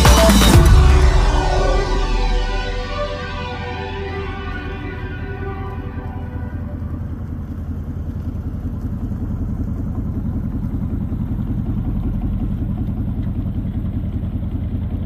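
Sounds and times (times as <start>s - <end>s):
truck engine driving past: 0.5s - 15.0s.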